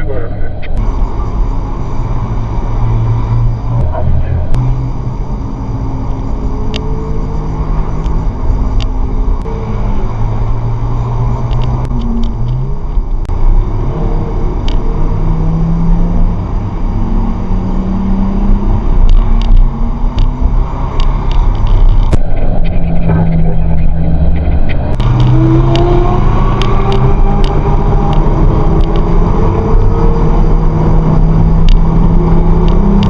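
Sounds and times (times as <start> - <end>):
car engine note: 0.0 - 33.0
road and tyre rumble: 0.0 - 33.0.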